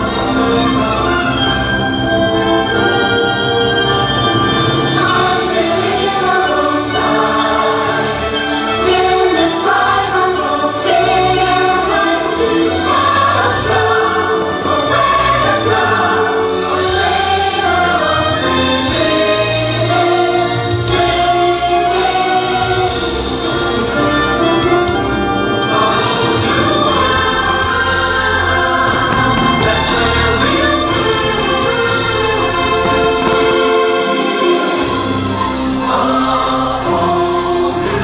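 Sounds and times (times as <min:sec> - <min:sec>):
choir singing sustained chords: 0:00.0 - 0:38.0
orchestral music: 0:00.0 - 0:38.0.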